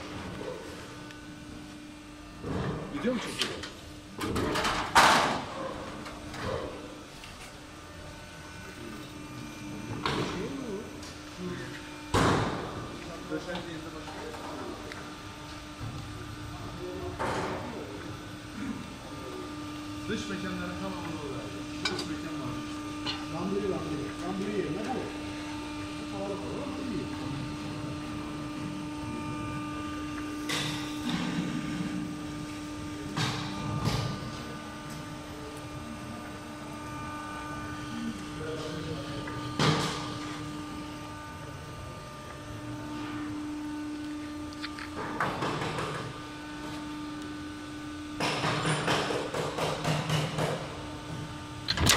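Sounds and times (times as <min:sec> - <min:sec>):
roll forming machine humming: 0:00.0 - 0:51.9.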